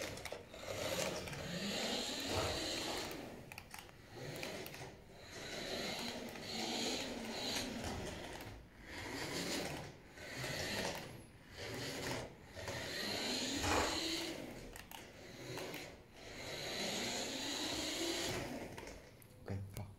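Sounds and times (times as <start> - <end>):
toy truck motor whirring: 0.0 - 19.2.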